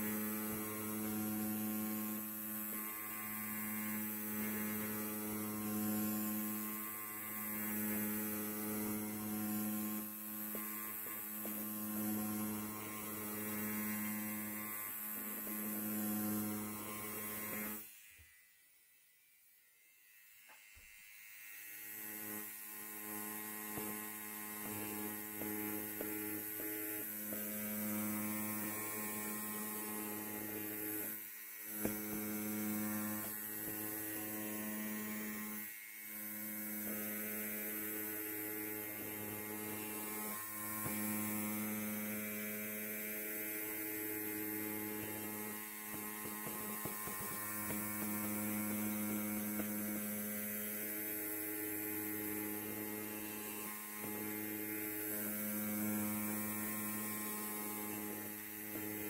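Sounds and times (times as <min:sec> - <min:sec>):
electric hair clippers buzzing: 0:00.0 - 0:59.0.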